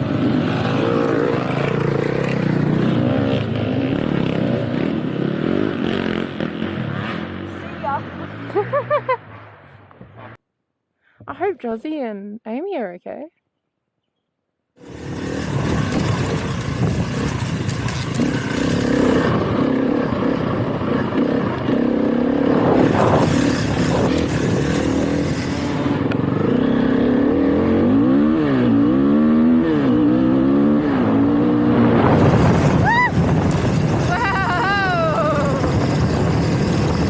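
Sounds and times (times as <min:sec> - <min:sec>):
motorbike engine revving: 0:00.0 - 0:10.4, 0:14.8 - 0:37.0
wind and riding noise: 0:00.0 - 0:10.4, 0:14.8 - 0:37.0.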